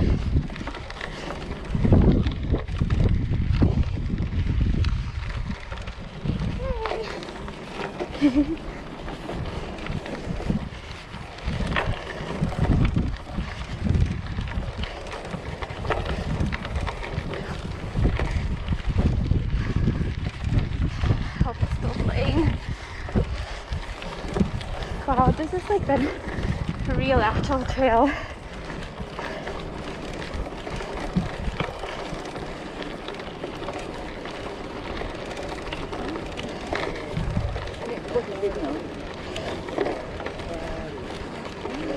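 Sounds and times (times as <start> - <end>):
bike rumbling on trail: 0.0 - 41.9
wind buffeting microphone: 0.0 - 41.9.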